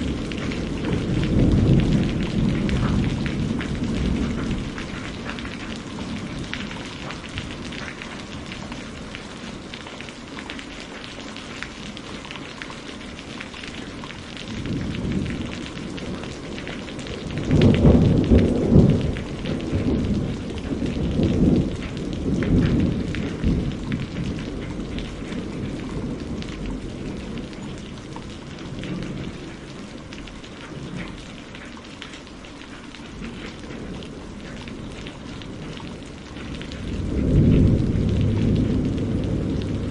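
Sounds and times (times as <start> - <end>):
thunder rolling: 0.0 - 9.2, 14.5 - 31.2, 33.2 - 39.9
steady rain falling: 0.0 - 39.9.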